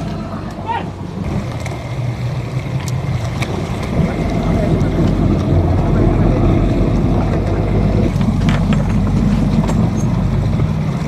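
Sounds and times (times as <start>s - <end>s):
boat engine rumbling: 0.0s - 11.0s
water noise: 0.0s - 11.0s
wind: 0.0s - 11.0s.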